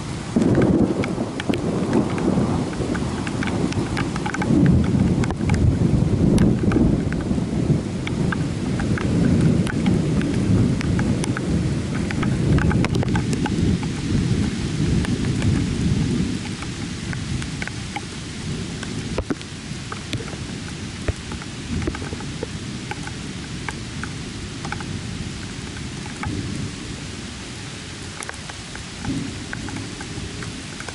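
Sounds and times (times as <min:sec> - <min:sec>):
rolling thunder: 0:00.0 - 0:26.9, 0:29.0 - 0:30.9
rain falling: 0:00.0 - 0:30.9
raindrops ticking close by: 0:00.0 - 0:30.9.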